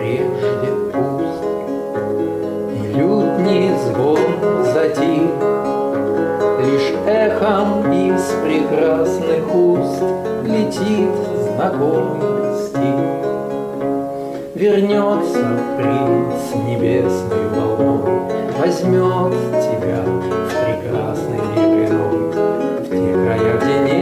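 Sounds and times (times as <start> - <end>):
solo lute playing: 0.0 - 24.0.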